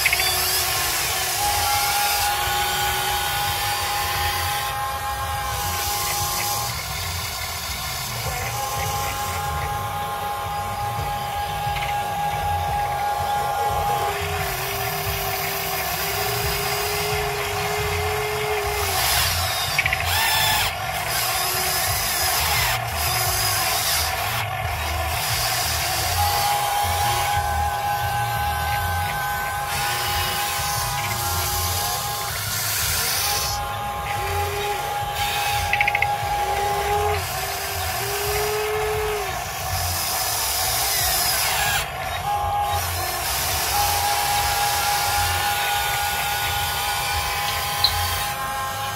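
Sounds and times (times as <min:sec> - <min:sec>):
electric motors and gears whirring: 0:00.0 - 0:48.9
steady whine: 0:00.0 - 0:48.9.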